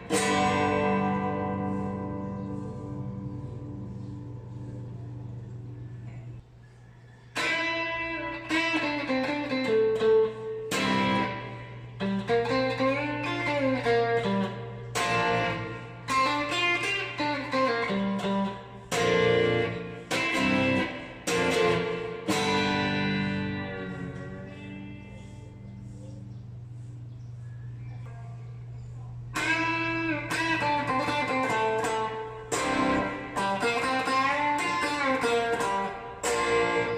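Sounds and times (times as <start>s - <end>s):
electric guitar melody and chords: 0.0s - 6.0s, 7.4s - 26.2s, 29.3s - 36.9s
low amp hum: 0.0s - 36.9s.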